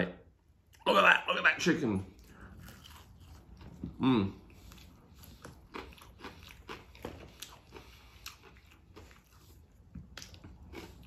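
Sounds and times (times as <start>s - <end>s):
man chewing crispy chicken: 2.1s - 11.0s.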